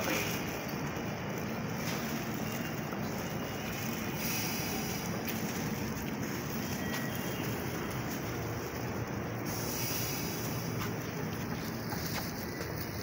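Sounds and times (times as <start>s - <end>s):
train rushing noise at platform: 0.0s - 13.0s.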